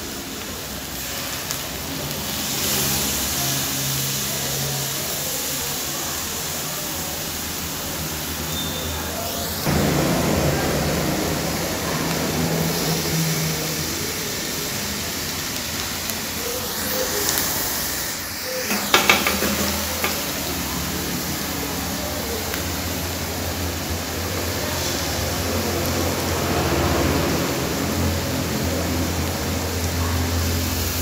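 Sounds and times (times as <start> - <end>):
food sizzling in frying pan: 0.0 - 31.0.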